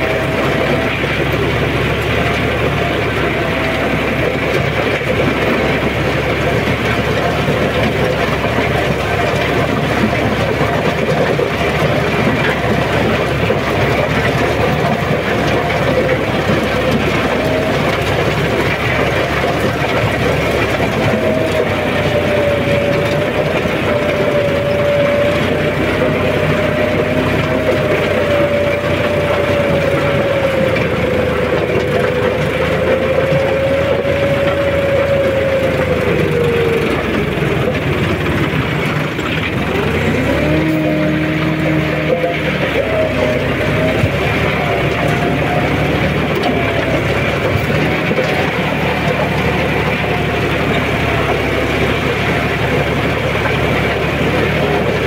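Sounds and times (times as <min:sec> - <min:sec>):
steady whine: 0:00.0 - 0:55.0
tiller churning soil: 0:00.0 - 0:55.0
tractor engine under load: 0:00.0 - 0:55.0.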